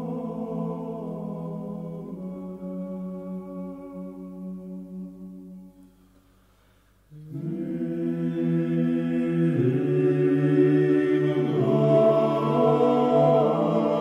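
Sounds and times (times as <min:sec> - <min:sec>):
choral chant of held notes: 0:00.0 - 0:05.8, 0:07.1 - 0:14.0.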